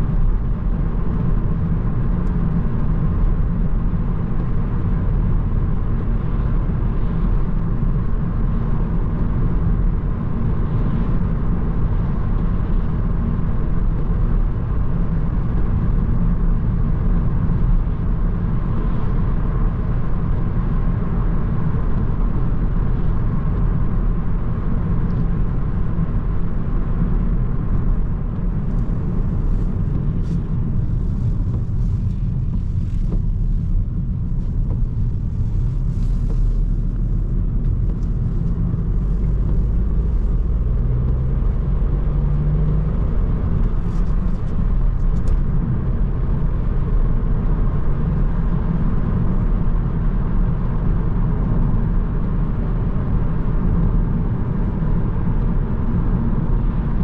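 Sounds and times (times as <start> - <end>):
car engine rumble while driving: 0.0 - 57.0.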